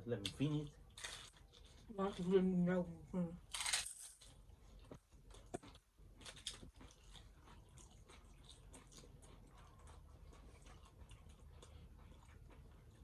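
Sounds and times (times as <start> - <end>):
chewing crunchy food: 0.0 - 2.6, 3.4 - 13.0.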